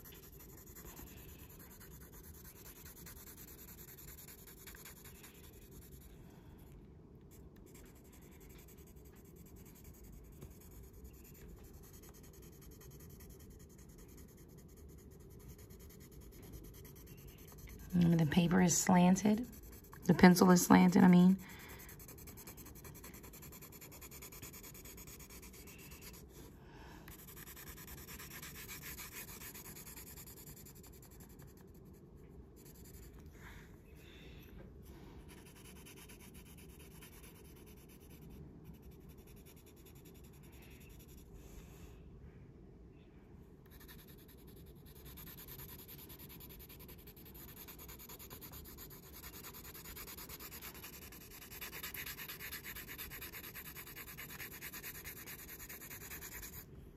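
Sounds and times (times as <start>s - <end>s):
pencil scratching on paper: 0.0s - 6.1s, 7.6s - 26.3s, 27.1s - 33.3s, 35.2s - 41.3s, 43.7s - 56.6s.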